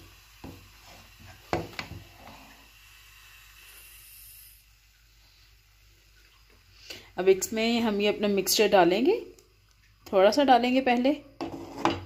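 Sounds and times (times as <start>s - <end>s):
milk boiling hiss: 0.0s - 12.0s.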